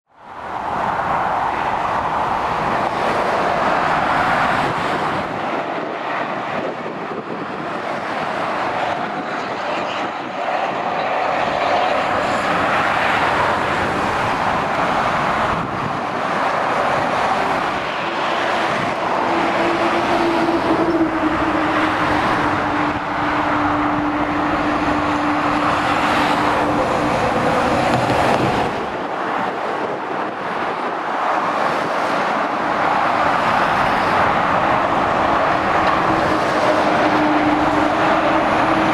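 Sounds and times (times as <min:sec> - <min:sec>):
motorway traffic rushing: 0:00.0 - 0:38.9.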